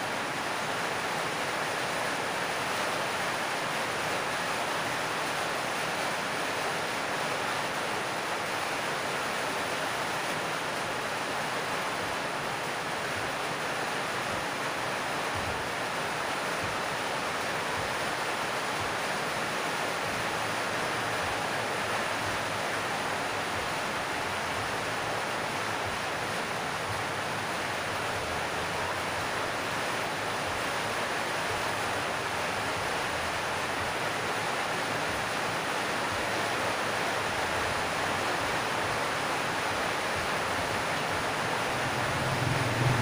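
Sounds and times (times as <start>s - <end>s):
heavy rain on a metal roof: 0.0s - 43.0s.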